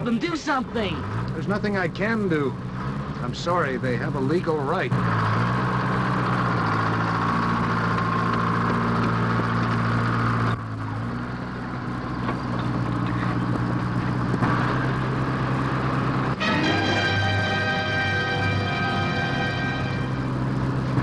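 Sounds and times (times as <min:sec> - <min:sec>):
bulldozer engine running: 0:00.0 - 0:21.0.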